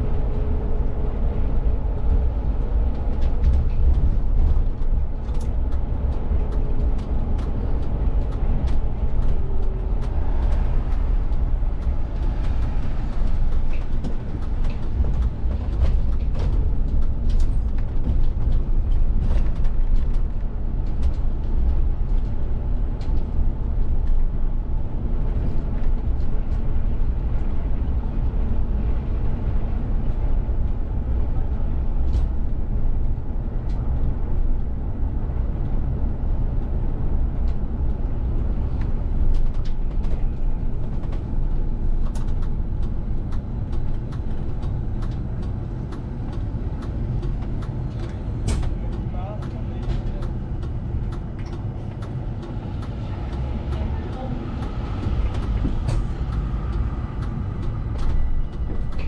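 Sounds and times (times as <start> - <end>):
bus drivetrain and tyres rumbling: 0.0 - 59.0.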